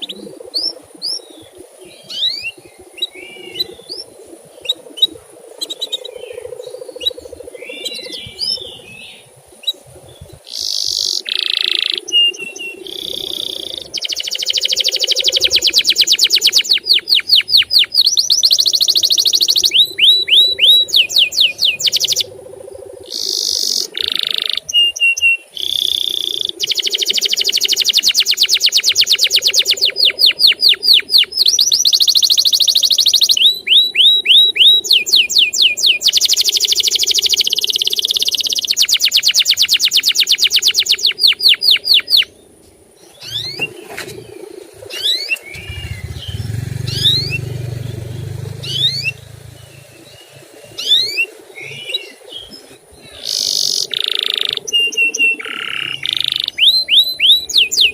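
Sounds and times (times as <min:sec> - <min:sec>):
canary singing: 0:00.0 - 0:57.9.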